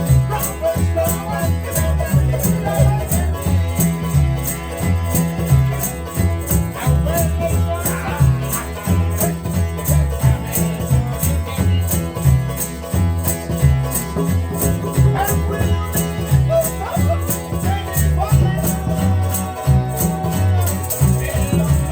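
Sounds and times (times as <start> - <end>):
voices singing: 0.0 - 12.8, 13.8 - 21.9
deep bass line: 0.0 - 21.9
shaker beat: 0.0 - 21.9
string instruments strummed: 0.0 - 21.9.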